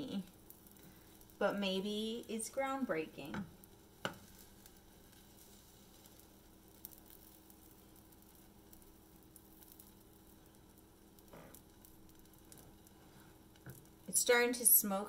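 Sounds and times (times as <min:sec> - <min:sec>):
faint pancake batter sizzling: 0:00.0 - 0:15.0.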